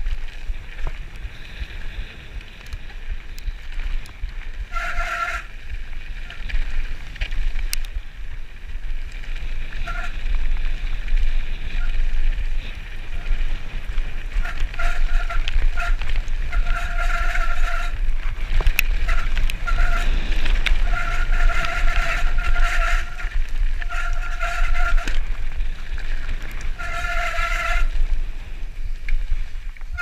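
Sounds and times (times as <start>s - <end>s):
high steady tone from bike: 0.0s - 30.0s
tyres crunching on gravel: 0.0s - 30.0s
wind rushing over microphone: 0.0s - 30.0s.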